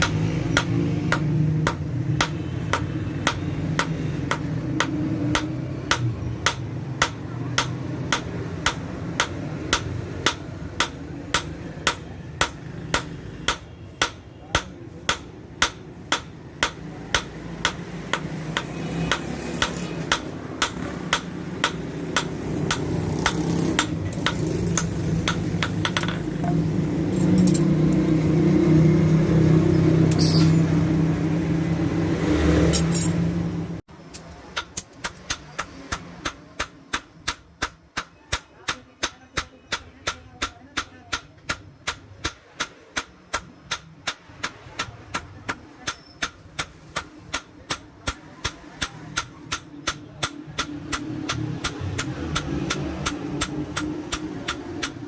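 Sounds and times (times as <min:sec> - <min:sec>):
hammer striking steel on anvil: 0:00.0 - 0:28.1, 0:34.1 - 0:55.0.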